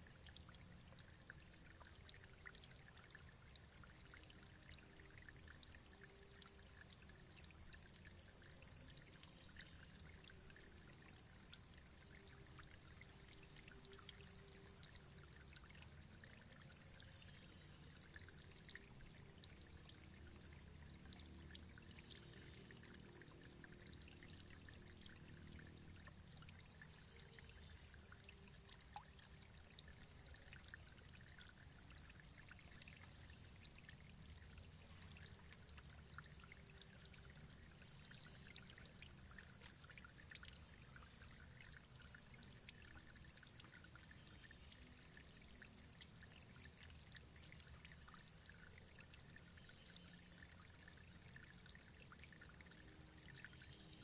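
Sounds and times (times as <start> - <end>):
running water trickling: 0.0 - 54.0
water drips and splashes: 0.0 - 54.0.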